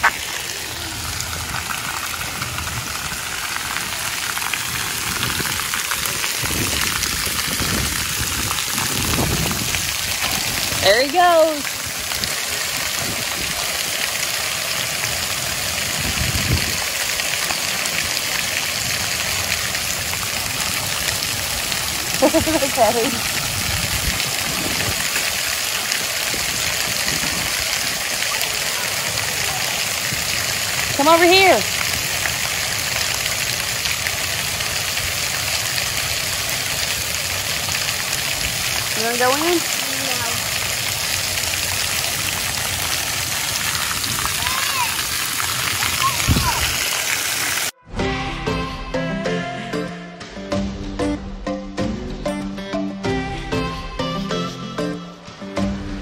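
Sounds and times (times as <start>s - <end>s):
water jets spraying and splashing: 0.0s - 47.8s.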